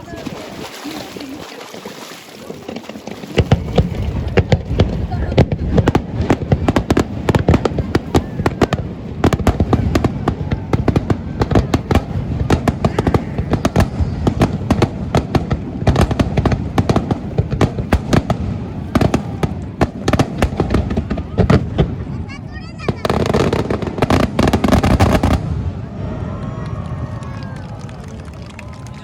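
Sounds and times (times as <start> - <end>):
fireworks bursting: 2.4 - 27.8.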